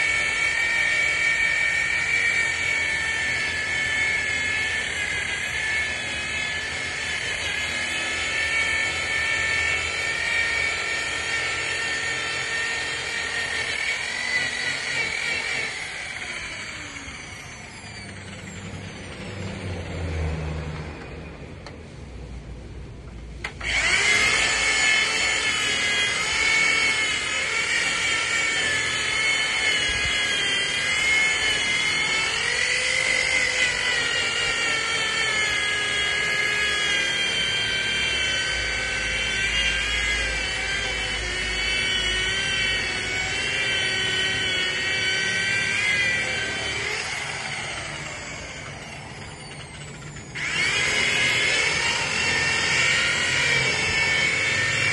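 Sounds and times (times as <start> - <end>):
electric polisher motor whine: 0.0 - 21.8, 23.4 - 54.9.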